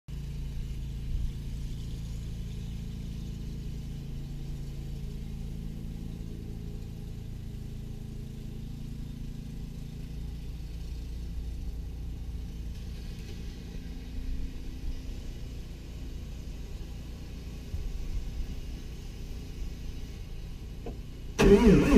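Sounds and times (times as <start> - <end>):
diesel engine idling: 0.1 - 21.9.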